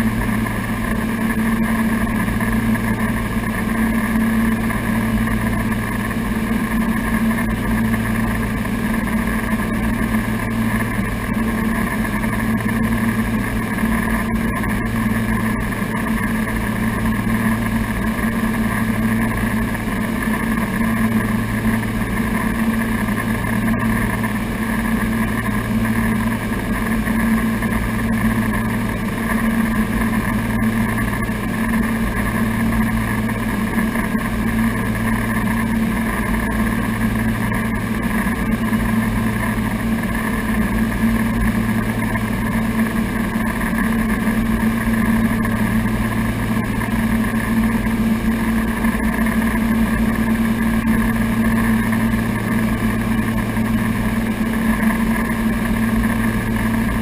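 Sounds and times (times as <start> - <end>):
propeller engines droning: 0.0 - 57.0.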